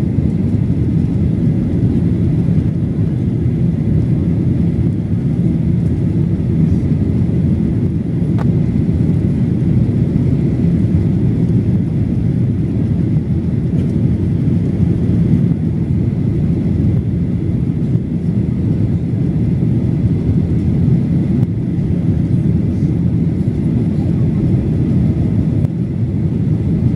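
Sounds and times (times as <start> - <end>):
airplane cabin rumble: 0.0 - 26.9.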